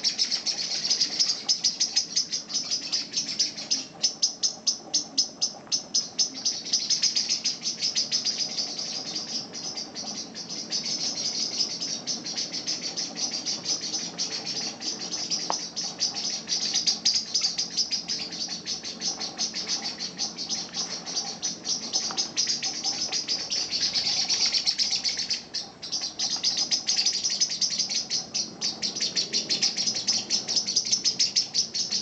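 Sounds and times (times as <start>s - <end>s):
bird alarm call ticking: 0.0s - 32.0s.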